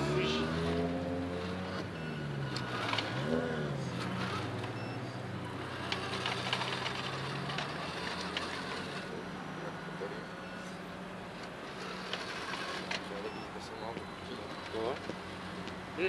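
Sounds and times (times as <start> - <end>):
engine revving: 0.0 - 10.6, 11.6 - 15.7
simulated diesel engine drone: 0.0 - 15.6.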